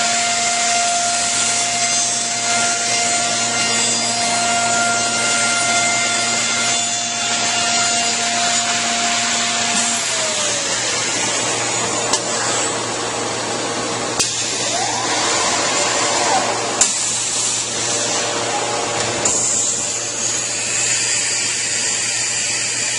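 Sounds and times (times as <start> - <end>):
dust extraction: 0.0 - 22.8
machine spindle whine: 0.0 - 22.9.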